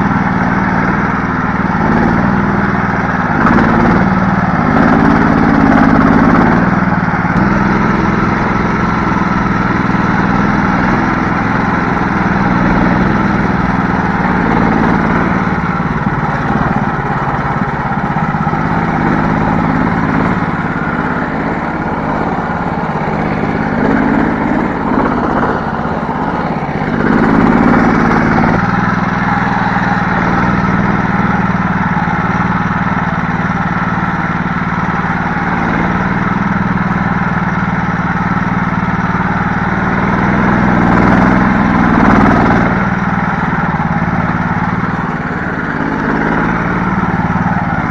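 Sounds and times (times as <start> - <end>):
vehicle engine revving: 0.0 - 47.9.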